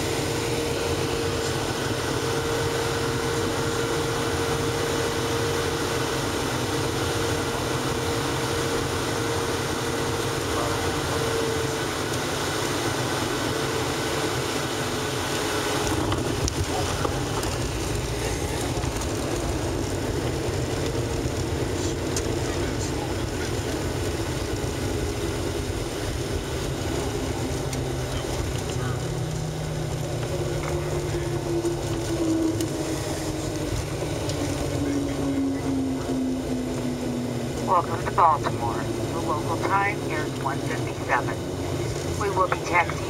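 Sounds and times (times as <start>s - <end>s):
jet engine and airflow rush: 0.0s - 43.0s
steady whine: 0.0s - 43.0s
wheels rumbling on runway: 0.0s - 43.0s.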